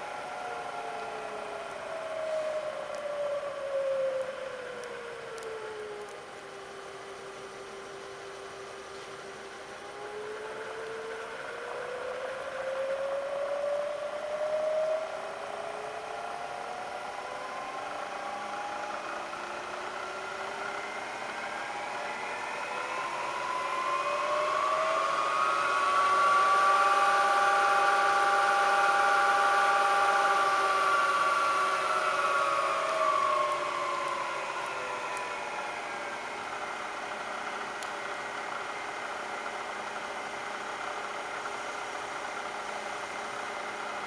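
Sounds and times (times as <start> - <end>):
milling machine whine rising: 0.0 - 44.0.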